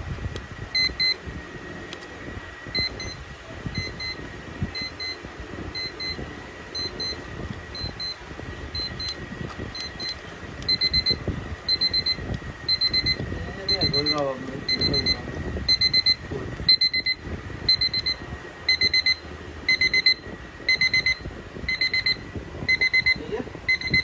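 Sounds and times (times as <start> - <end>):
alarm clock beeping: 0.8 - 1.2, 2.8 - 3.2, 3.8 - 4.2, 4.8 - 9.2, 9.8 - 24.0.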